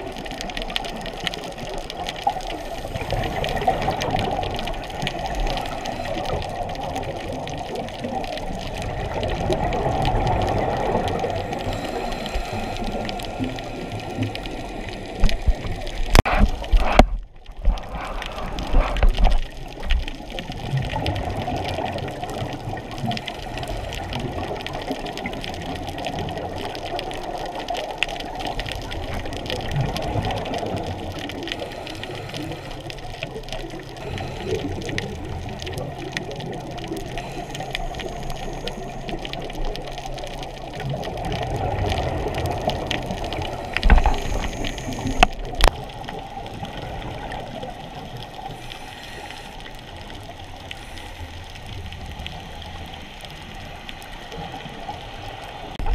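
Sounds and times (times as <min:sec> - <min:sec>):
underwater scuba bubbles: 0:00.0 - 0:55.9.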